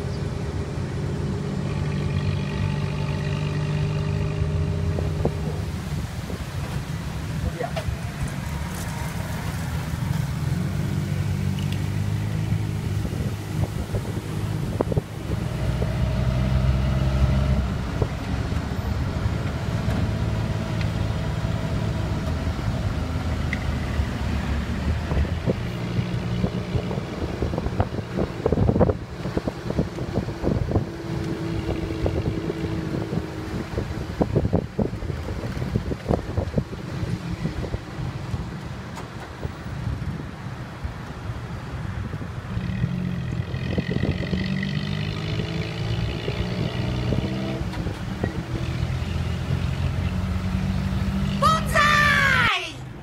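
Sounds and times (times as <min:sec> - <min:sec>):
auto rickshaw engine running: 0:00.0 - 0:51.4.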